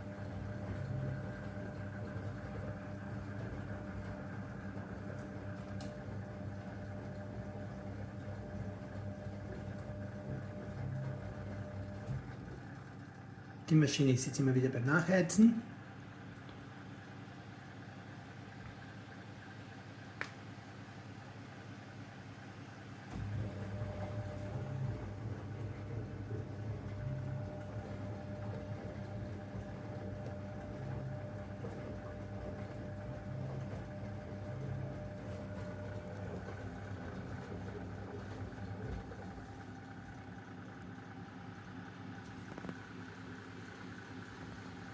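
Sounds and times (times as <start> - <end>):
washing machine hum: 0.0 - 44.9.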